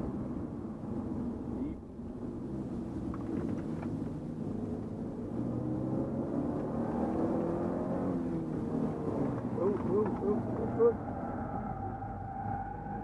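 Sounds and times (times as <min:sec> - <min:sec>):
car engine accelerating: 0:02.2 - 0:13.0.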